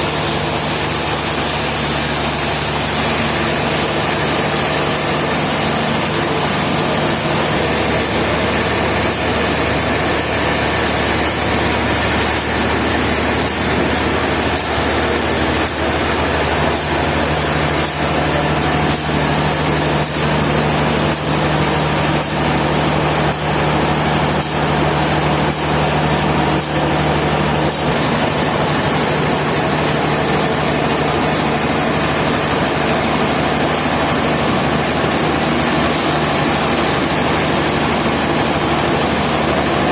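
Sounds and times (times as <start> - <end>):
machinery drone: 0.0 - 39.9.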